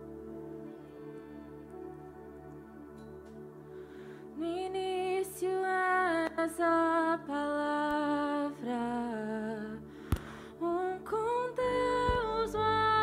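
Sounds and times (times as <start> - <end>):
soft synthesizer chords: 0.0 - 13.0.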